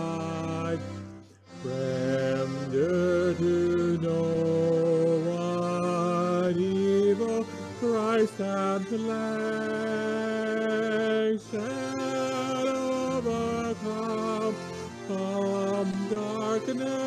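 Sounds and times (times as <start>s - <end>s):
church hymn music: 0.0s - 17.0s.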